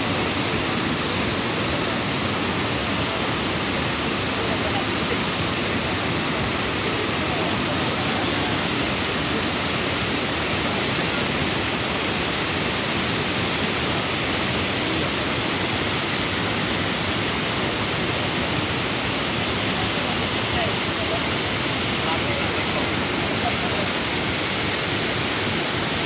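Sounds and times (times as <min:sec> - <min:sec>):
mudflow rushing down river channel: 0:00.0 - 0:26.0.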